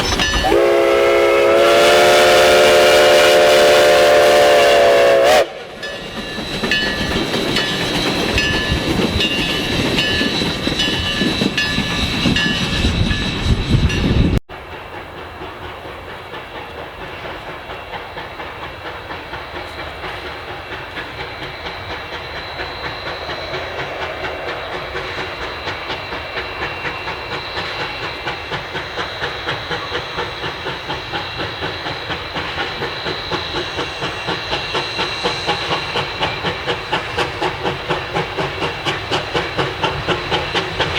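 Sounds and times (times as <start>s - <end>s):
steam locomotive exhaust beats: 0.0s - 40.9s
train noise: 0.0s - 40.9s.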